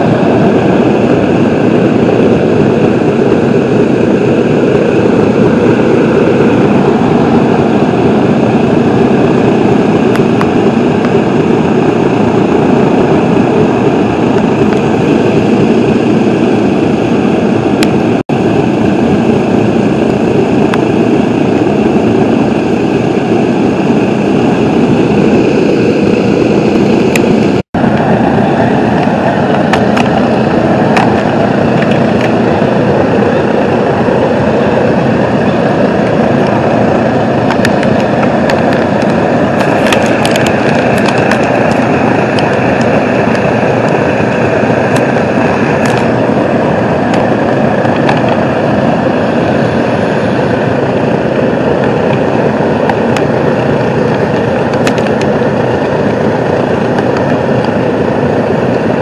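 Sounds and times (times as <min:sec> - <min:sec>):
aircraft engines idling: 0:00.0 - 0:59.0.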